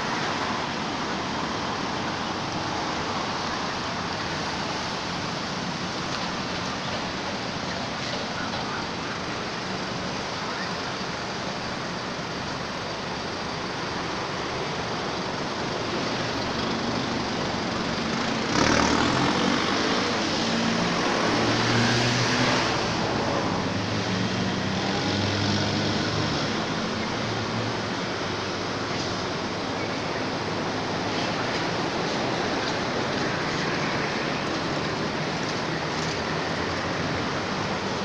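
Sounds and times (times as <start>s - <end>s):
traffic noise: 0.0s - 38.0s
vehicle engine hum: 0.0s - 38.0s.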